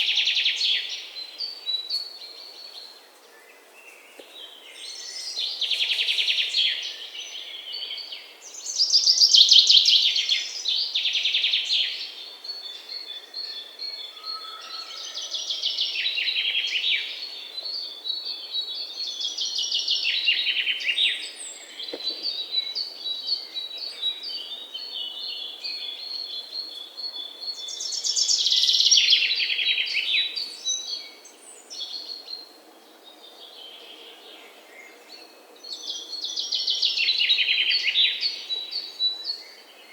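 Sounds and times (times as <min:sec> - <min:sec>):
faint outdoor background noise: 0:00.0 - 0:39.9.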